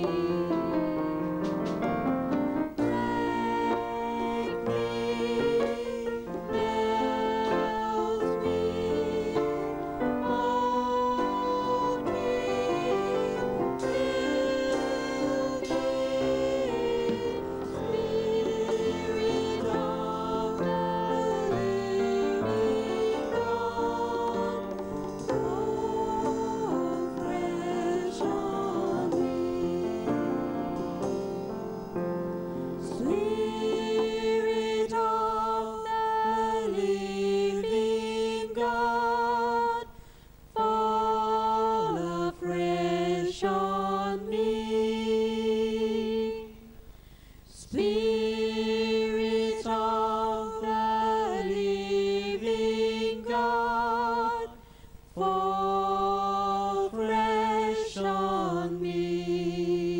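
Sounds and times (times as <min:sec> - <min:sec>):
vocal group singing in harmony: 0:00.0 - 0:59.9.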